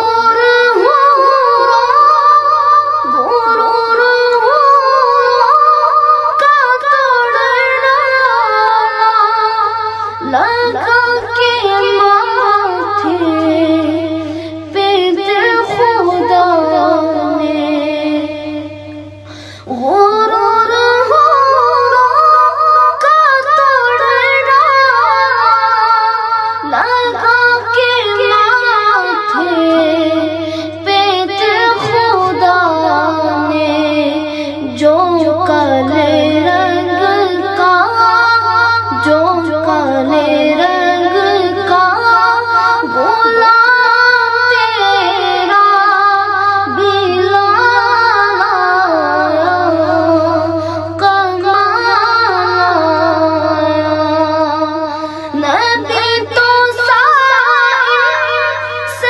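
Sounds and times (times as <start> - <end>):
boy singing devotional song: 0.0 - 59.0
steady low hum: 0.0 - 59.0.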